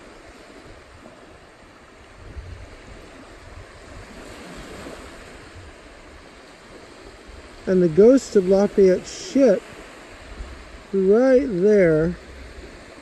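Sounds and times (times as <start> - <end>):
surf washing up beach: 0.0 - 13.0
wind on microphone: 0.0 - 13.0.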